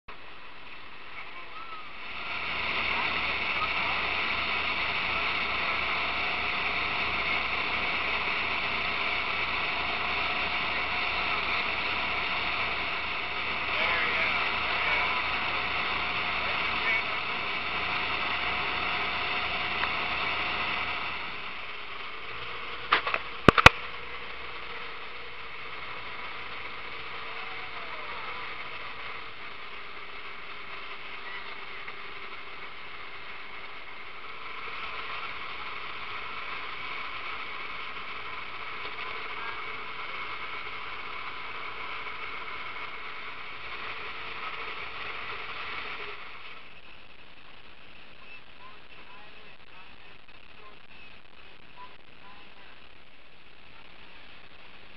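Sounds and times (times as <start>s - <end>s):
boat engine running: 0.1s - 54.9s.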